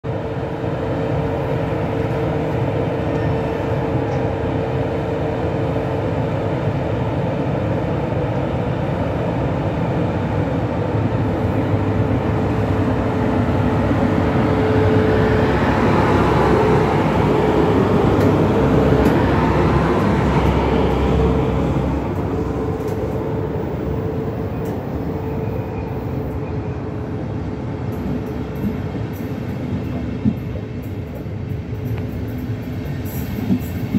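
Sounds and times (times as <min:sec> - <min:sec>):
steady locomotive tone: 0:00.0 - 0:33.9
electric locomotive passing: 0:00.1 - 0:33.9
train coaches rolling past: 0:00.1 - 0:33.9.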